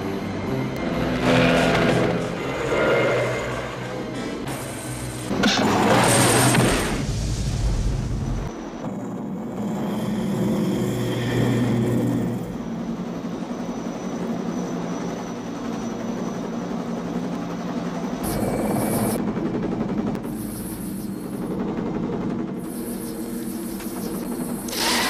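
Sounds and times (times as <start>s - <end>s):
helicopter engine and rotor drone: 0.0s - 7.0s, 8.3s - 25.0s.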